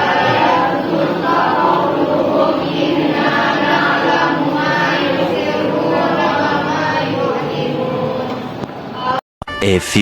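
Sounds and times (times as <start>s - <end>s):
choir singing: 0.0s - 9.2s.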